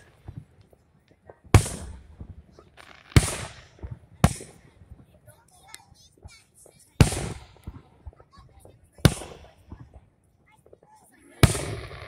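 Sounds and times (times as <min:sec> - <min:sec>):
firework booms with rolling echo: 0:00.0 - 0:12.0.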